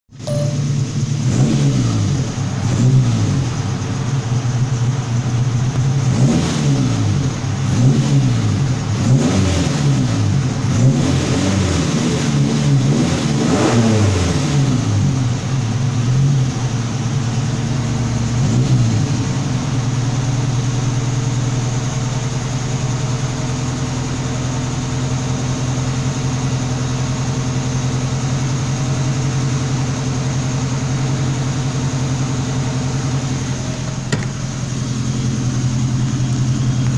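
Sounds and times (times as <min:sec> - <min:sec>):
car engine idling: 0:00.1 - 0:11.5, 0:14.6 - 0:36.9
car engine revving: 0:00.6 - 0:22.3, 0:28.5 - 0:36.9.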